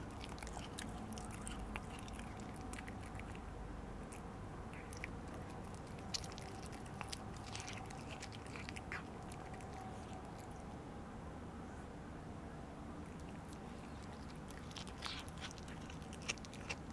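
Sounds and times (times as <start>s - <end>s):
cat chewing food: 0.0s - 10.8s, 13.0s - 16.9s.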